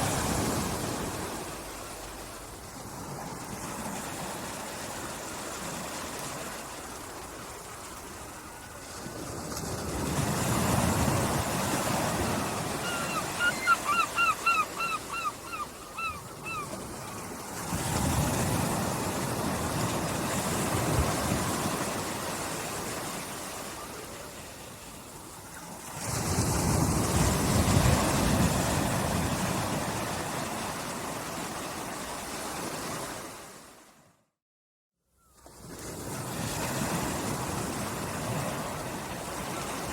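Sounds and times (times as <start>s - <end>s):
sea waves washing onto beach: 0.0s - 15.2s, 15.8s - 33.8s.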